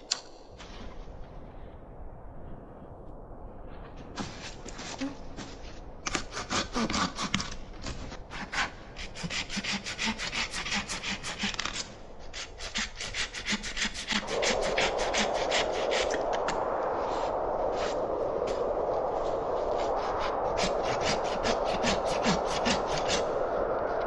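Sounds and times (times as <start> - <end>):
steady rushing noise: 0.5 - 24.0.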